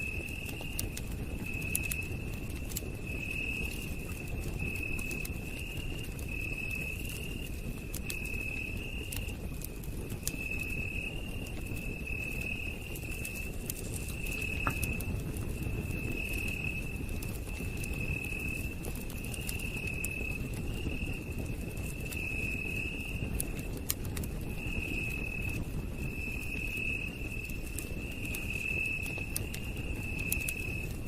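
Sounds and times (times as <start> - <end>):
night insect calling: 0.0 - 9.3, 10.2 - 23.6, 24.6 - 31.0
campfire crackling and popping: 0.0 - 31.0.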